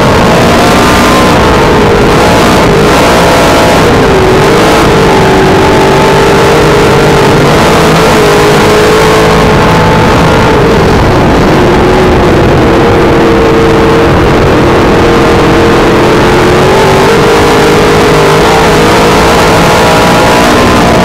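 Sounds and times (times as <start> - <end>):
race car engine running hard: 0.0 - 21.0.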